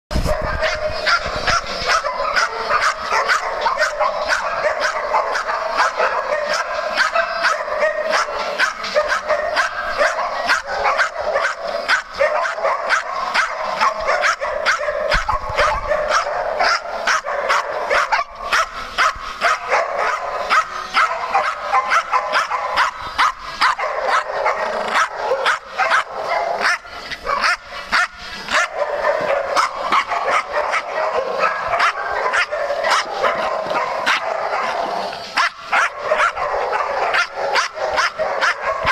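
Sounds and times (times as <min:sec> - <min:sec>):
many dogs barking: 0:00.1 - 0:38.9.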